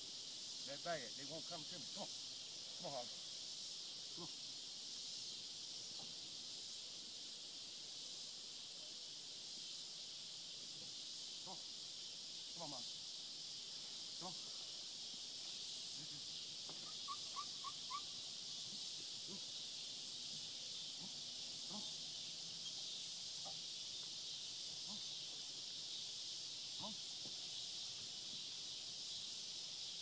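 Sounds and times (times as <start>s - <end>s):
insects chirring: 0.0s - 30.0s
faint scattered calls: 0.1s - 30.0s.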